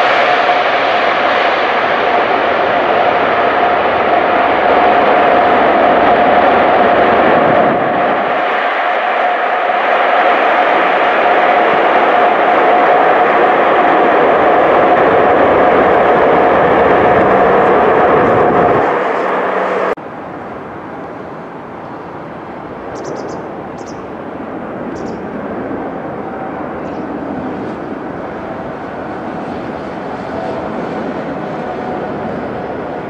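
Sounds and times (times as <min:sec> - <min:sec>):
airliner engine on approach: 0:00.0 - 0:33.0
jet engine whine: 0:00.0 - 0:33.0.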